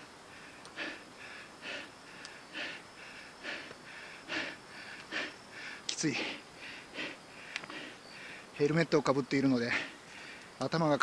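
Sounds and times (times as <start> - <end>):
person breathing hard: 0.2 - 8.6, 9.7 - 10.6.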